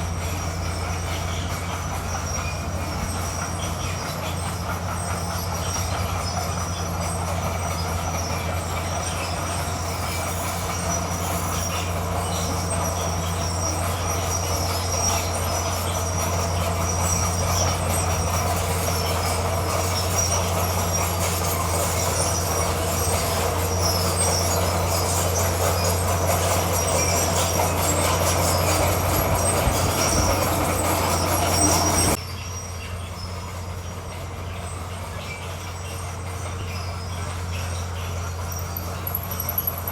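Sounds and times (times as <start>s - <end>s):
diesel engine under load: 0.0s - 39.9s
steel tracks clanking and squealing: 0.0s - 39.9s.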